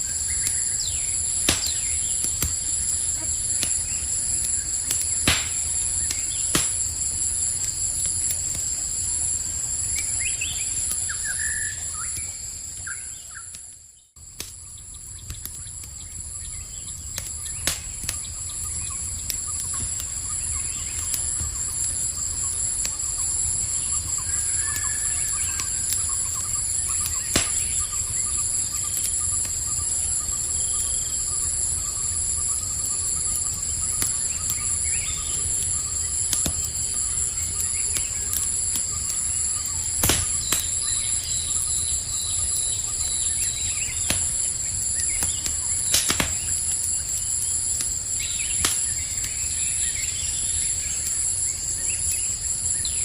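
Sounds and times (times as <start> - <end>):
campfire crackling and popping: 0.0 - 53.0
crickets trilling: 0.0 - 53.0.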